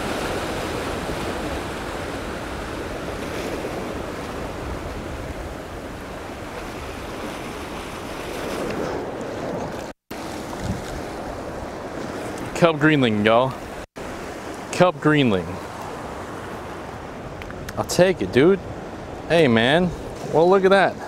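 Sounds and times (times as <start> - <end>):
ocean surf against rocks: 0.0 - 21.0.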